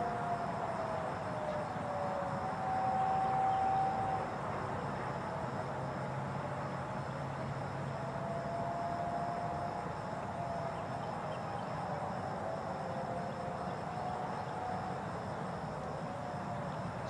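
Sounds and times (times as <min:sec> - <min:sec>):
distant warning sirens: 0:00.0 - 0:17.0.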